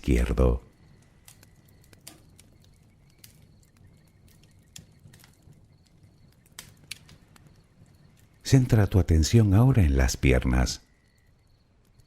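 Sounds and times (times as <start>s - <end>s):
bonfire crackling: 0.0s - 12.0s
burning wood popping: 0.0s - 12.0s.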